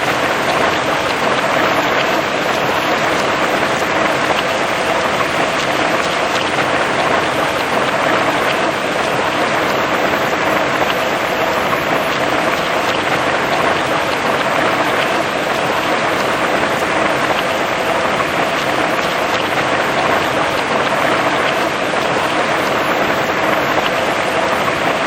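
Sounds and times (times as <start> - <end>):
heavy rain on foliage: 0.0 - 25.0.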